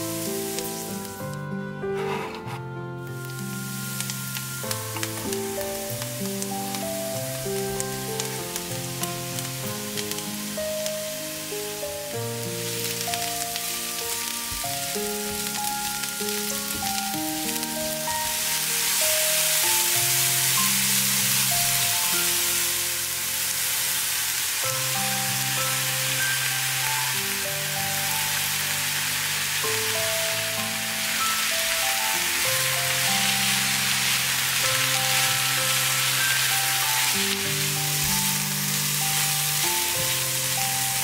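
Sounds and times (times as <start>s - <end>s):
vegetables sizzling in a frying pan: 0.0s - 1.4s, 2.0s - 41.0s
gentle background music: 0.0s - 41.0s.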